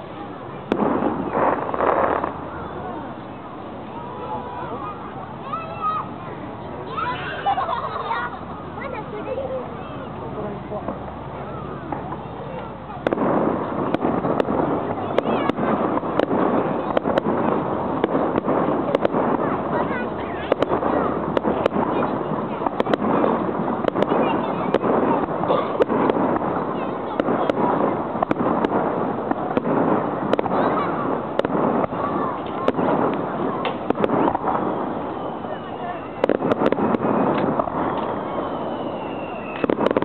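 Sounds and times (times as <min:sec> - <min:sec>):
continuous background noise: 0:00.0 - 0:40.0
fireworks bursting: 0:00.0 - 0:40.0.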